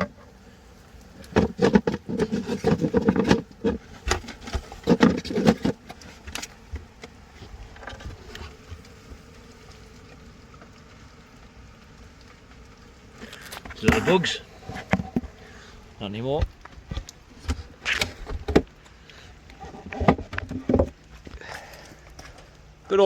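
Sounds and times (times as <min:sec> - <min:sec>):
honeybees buzzing: 0:00.0 - 0:22.8.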